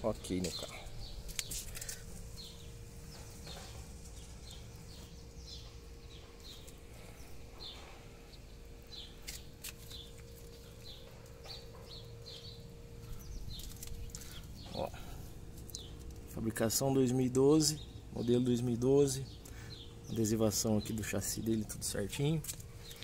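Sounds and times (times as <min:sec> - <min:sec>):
faint steady hum: 0:00.0 - 0:23.0
small birds chirping: 0:00.0 - 0:23.0.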